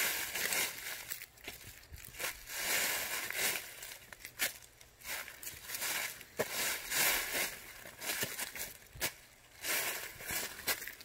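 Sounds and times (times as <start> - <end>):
dry leaves crunching underfoot: 0.0 - 11.0.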